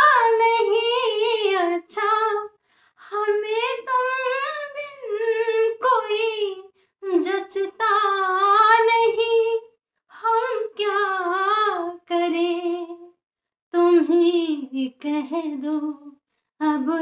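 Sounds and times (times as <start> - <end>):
woman singing unaccompanied: 0.0 - 13.1, 13.8 - 17.0.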